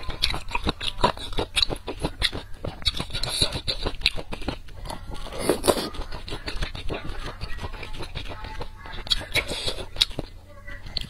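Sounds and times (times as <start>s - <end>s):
chewing with wet mouth clicks: 0.0s - 11.0s.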